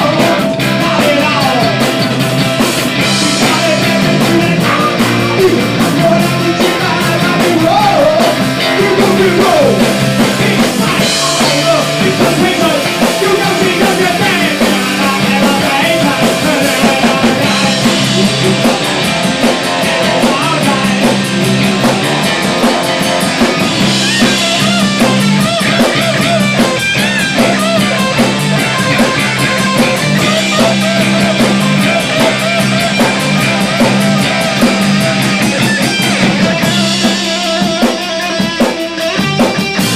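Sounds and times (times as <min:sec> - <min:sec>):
punk rock song: 0:00.0 - 0:39.9.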